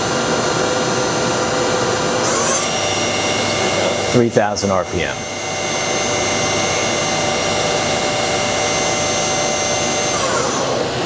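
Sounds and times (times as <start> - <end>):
machine spindle whine: 0.0 - 11.0.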